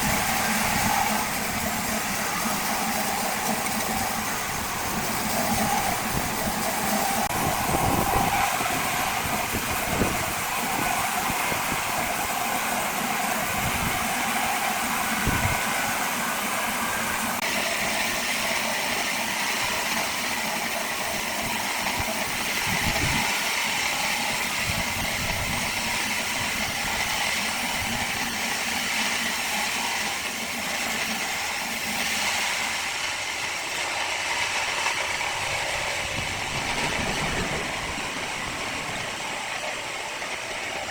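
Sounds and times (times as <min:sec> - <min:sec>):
steady mechanical noise with hiss: 0:00.0 - 0:40.9.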